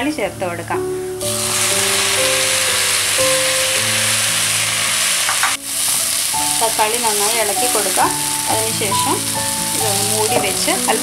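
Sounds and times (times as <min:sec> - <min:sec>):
masala sizzling in a pan: 0:01.2 - 0:11.0.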